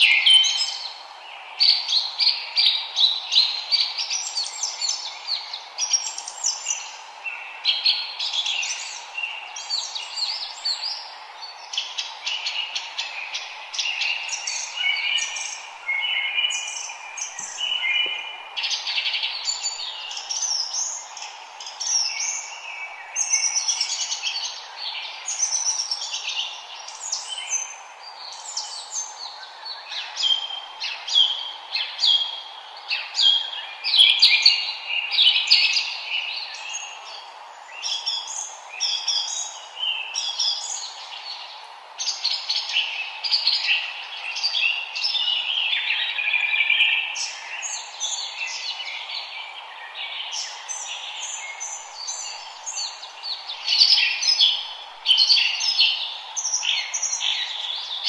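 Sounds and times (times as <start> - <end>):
faint background hiss: 0.0 - 58.0
songbirds singing and chirping: 0.0 - 58.0.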